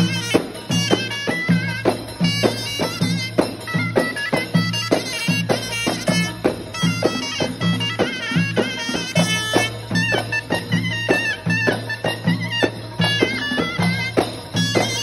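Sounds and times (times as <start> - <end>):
frame drums beating: 0.0 - 15.0
shawm playing reedy melody: 0.0 - 15.0.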